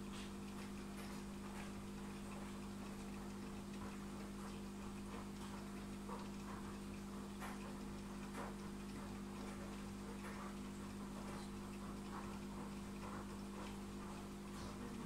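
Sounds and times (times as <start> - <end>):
aquarium equipment humming: 0.0 - 15.0
water clicking and ticking: 0.0 - 15.0.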